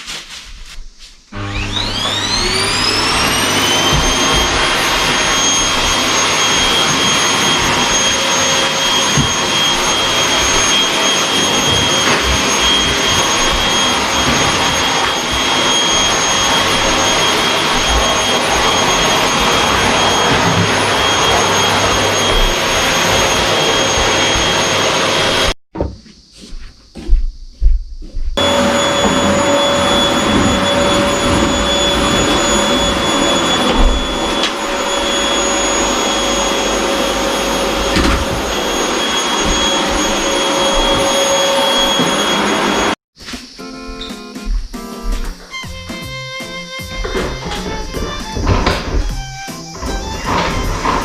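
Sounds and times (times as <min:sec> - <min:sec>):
vacuum cleaner running: 0:00.1 - 0:25.6, 0:26.4 - 0:51.0.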